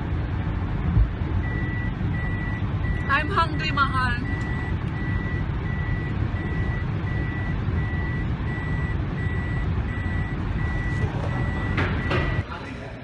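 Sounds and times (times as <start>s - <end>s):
engine and road rumble: 0.0s - 13.0s
vehicle warning chime beeping: 1.4s - 12.4s.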